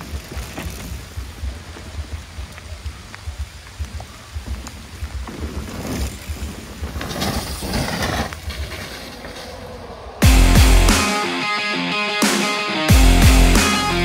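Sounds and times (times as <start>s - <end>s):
rainfall hiss: 0.0s - 11.4s
rush of noise: 0.0s - 14.0s.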